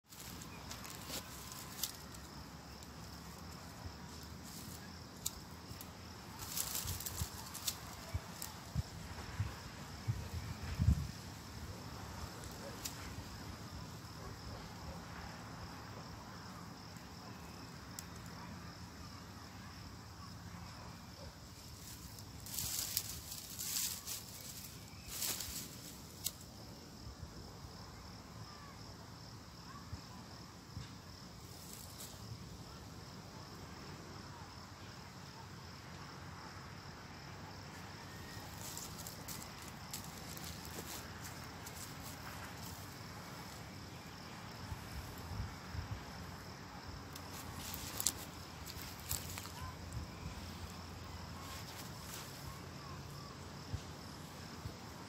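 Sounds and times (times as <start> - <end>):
insect trill: 0.0 - 55.0.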